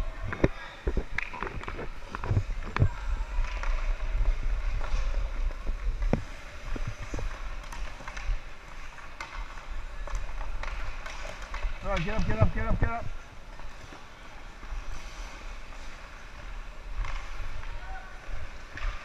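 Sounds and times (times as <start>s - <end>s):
skates scraping on ice: 0.0s - 19.0s
hockey sticks knocking puck: 0.3s - 19.0s.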